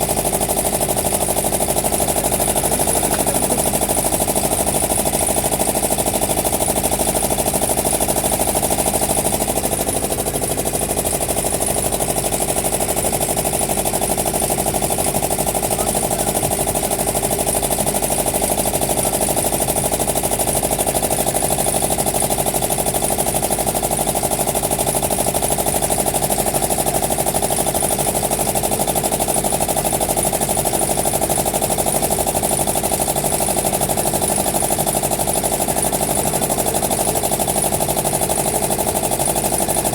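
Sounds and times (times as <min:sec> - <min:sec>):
boat engine pounding: 0:00.0 - 0:39.9.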